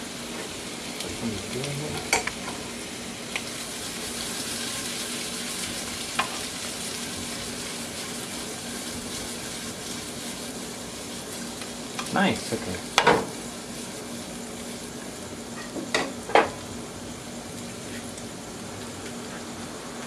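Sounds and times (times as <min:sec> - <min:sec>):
cream sauce sizzling in a pan: 0:00.0 - 0:20.0.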